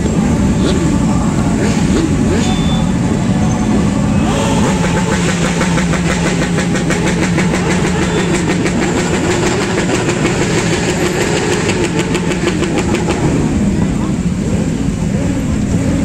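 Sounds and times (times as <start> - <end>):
motorcycle engines running loudly: 0.0 - 16.0.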